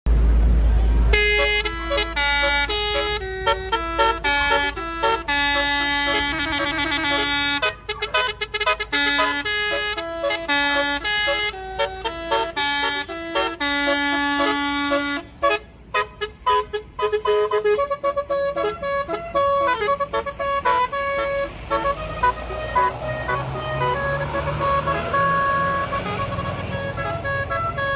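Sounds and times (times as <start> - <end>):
bus musical horn melody: 1.0 - 27.9.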